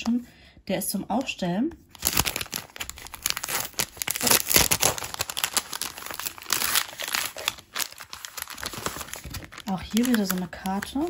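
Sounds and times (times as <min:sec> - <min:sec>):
plastic packaging crinkling: 0:01.9 - 0:11.0.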